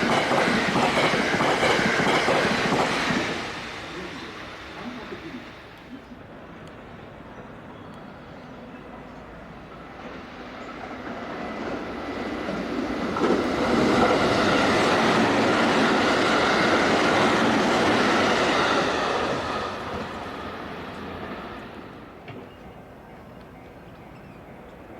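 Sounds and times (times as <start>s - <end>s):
train wheels rushing on rail: 0.0s - 24.9s.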